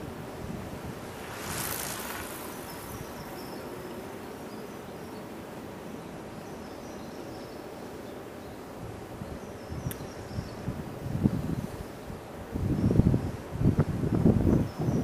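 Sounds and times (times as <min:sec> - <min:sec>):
insects chirring: 0:00.0 - 0:13.2
outdoor background hiss: 0:00.0 - 0:15.0.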